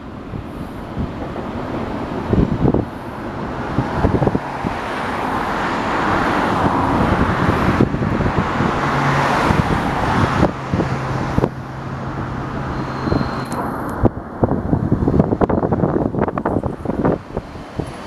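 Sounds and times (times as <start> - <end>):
cars passing: 0.0 - 18.0
wind thumps on microphone: 0.0 - 18.0.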